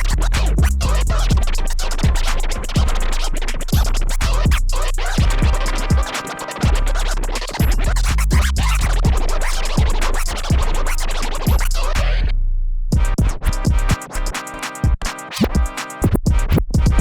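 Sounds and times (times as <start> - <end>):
vinyl record scratching: 0.0 - 12.2, 13.0 - 17.0
hip hop beat with bass kicks: 0.0 - 12.3, 12.9 - 17.0.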